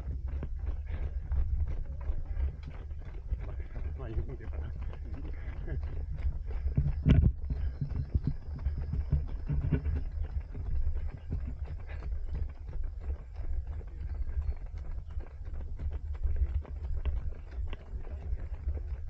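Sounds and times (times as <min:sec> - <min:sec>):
low microphone rumble: 0:00.0 - 0:19.0
running footsteps: 0:00.0 - 0:19.0.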